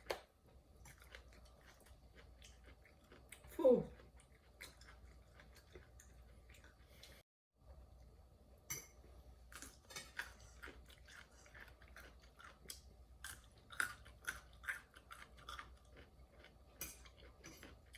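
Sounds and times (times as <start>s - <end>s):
person chewing food: 0.0s - 7.2s, 9.4s - 17.9s.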